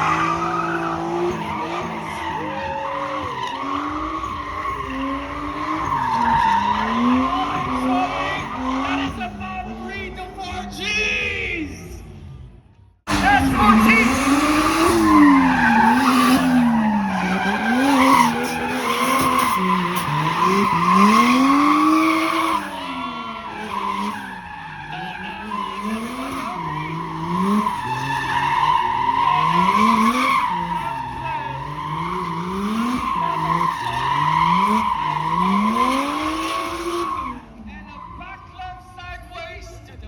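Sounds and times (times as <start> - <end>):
tyre squeal: 0.0 - 9.4, 13.1 - 39.2
car engine revving: 0.0 - 10.8, 13.1 - 39.3.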